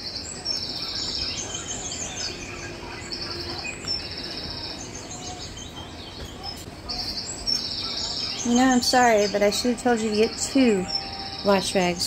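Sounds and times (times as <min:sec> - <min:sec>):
low background noise: 0:00.0 - 0:12.0
small birds chirping: 0:00.0 - 0:12.0.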